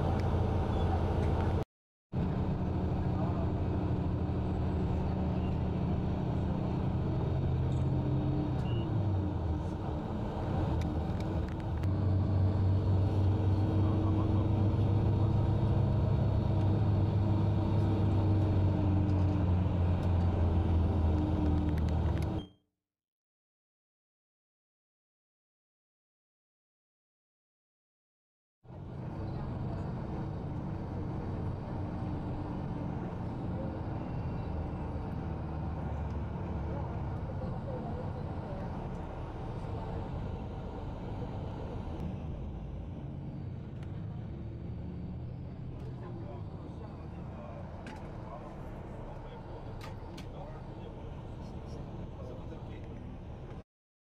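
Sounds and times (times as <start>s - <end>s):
bus engine drone: 0.0s - 22.6s, 28.7s - 53.6s.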